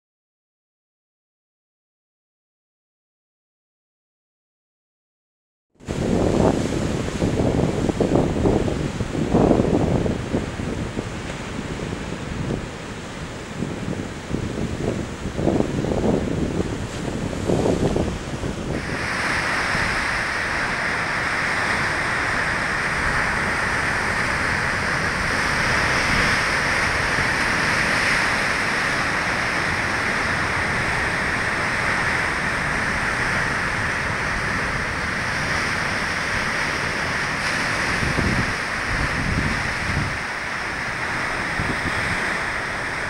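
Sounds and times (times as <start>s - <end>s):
heavy surf breaking on rocks: 5.8s - 43.0s.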